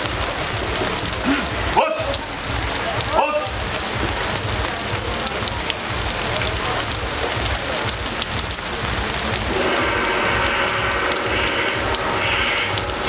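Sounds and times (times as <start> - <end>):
low rumble: 0.0 - 13.0
music: 0.0 - 13.0
steady crackling noise: 0.0 - 13.0.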